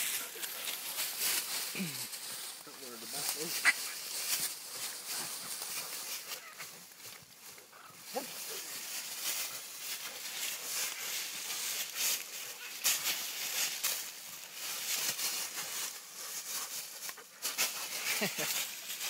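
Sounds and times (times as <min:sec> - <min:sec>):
dry leaves crackling and rustling: 0:00.0 - 0:19.0.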